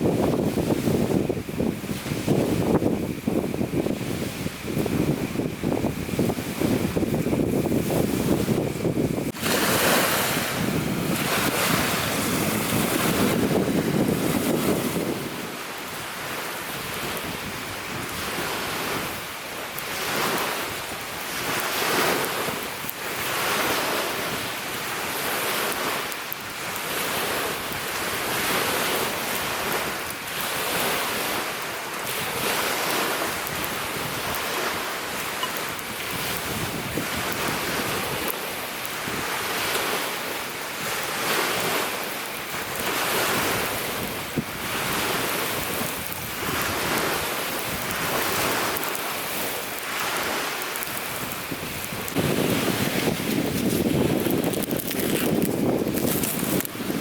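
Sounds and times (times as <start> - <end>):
lake waves washing on shore: 0.0 - 57.0
wind buffeting microphone: 0.0 - 57.0.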